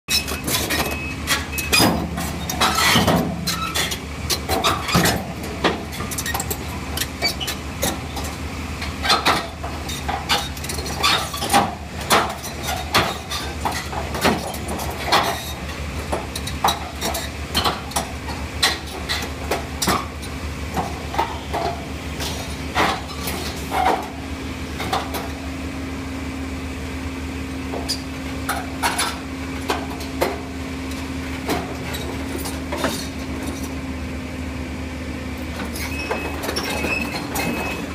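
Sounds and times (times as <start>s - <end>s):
diesel engine running: 0.1s - 37.9s.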